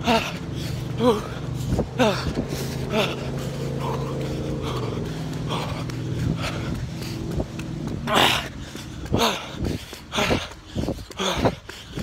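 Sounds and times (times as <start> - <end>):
heavy panting breaths: 0.0 - 12.0
vehicle engine humming: 0.0 - 12.0.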